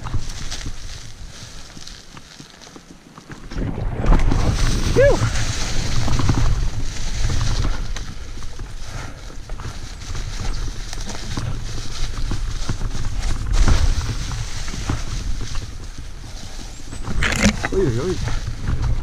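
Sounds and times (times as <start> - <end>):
wind rumble on microphone: 0.0 - 1.9, 3.4 - 19.0
bike tyres rolling over dirt: 0.0 - 19.0.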